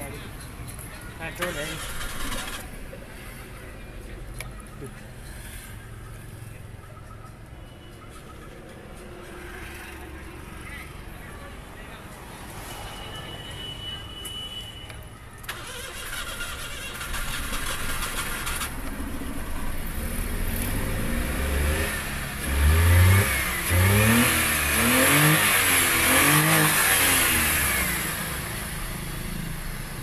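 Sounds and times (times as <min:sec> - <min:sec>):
car engine idling and revving: 0:00.0 - 0:11.4, 0:15.4 - 0:30.0.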